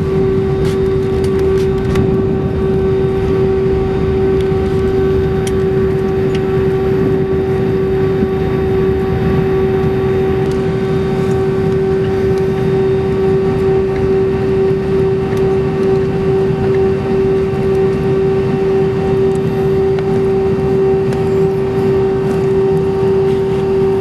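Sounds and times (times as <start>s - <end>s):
dense low rumble: 0.0s - 22.6s
aircraft engines at low power: 0.0s - 24.0s
constant high hum: 0.0s - 24.0s.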